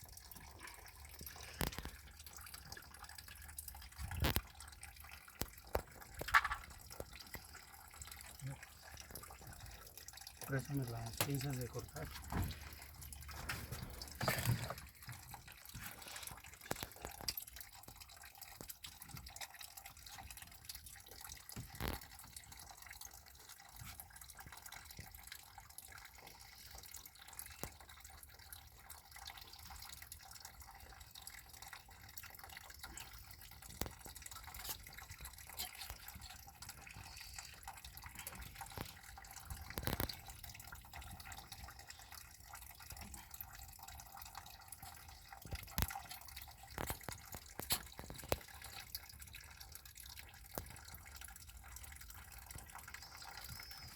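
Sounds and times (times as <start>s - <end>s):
water dripping: 0.0s - 53.9s.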